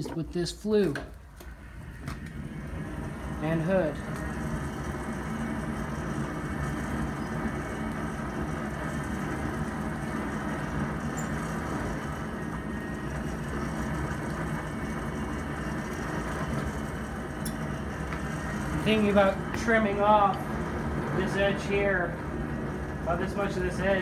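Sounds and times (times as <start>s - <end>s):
forge blower and fire rumbling: 0.0s - 24.0s.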